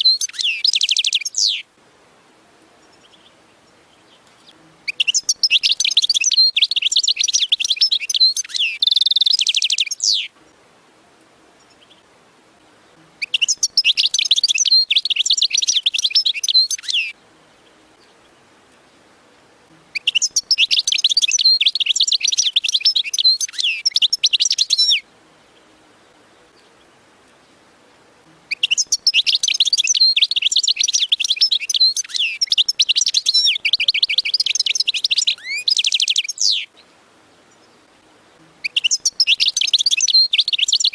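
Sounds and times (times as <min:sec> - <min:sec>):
finch trilling song: 0:00.0 - 0:01.7, 0:02.8 - 0:10.6, 0:12.8 - 0:19.0, 0:19.6 - 0:40.9.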